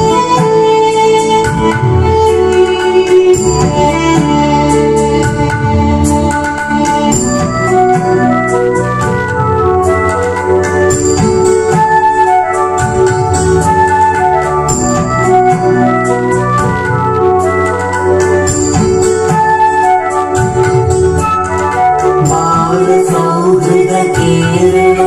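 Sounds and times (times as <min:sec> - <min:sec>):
light percussion beat: 0:00.0 - 0:25.0
organ-like keyboard melody: 0:00.0 - 0:25.0.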